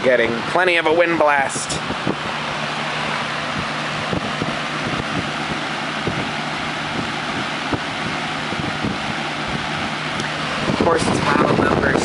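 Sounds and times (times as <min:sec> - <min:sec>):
fan air rushing: 0:00.0 - 0:12.0
low motor hum: 0:00.0 - 0:12.0.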